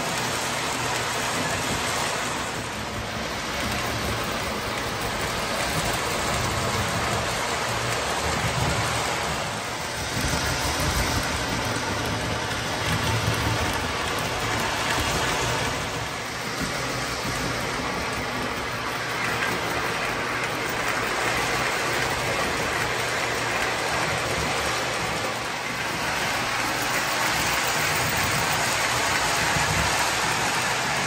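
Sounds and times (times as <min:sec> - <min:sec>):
model train wheels rumbling: 0:00.0 - 0:31.0.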